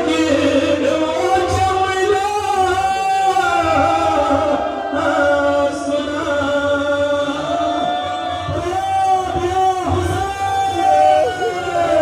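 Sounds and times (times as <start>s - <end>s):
voices chanting a lament: 0.0s - 12.0s.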